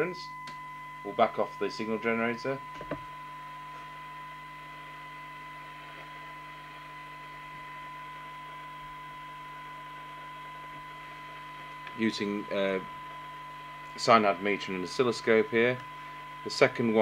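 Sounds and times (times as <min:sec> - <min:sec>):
low mains hum: 0:00.0 - 0:17.0
steady test tone: 0:00.0 - 0:17.0.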